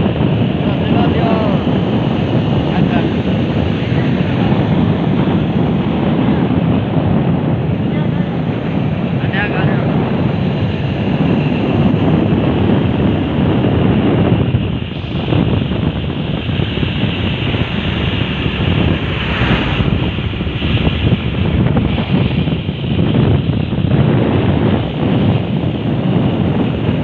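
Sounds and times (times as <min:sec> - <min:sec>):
road noise: 0:00.0 - 0:27.0
wind rushing over microphone: 0:00.0 - 0:27.0.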